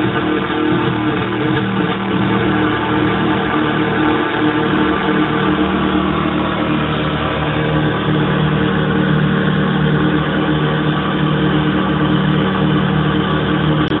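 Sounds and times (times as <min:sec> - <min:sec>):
synthesizer drone: 0:00.0 - 0:14.0.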